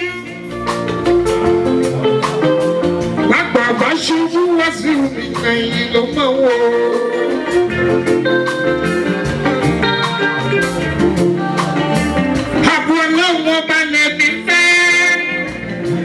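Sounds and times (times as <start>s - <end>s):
drums and percussion: 0.0s - 16.0s
held melodic instrument lines: 0.0s - 16.0s.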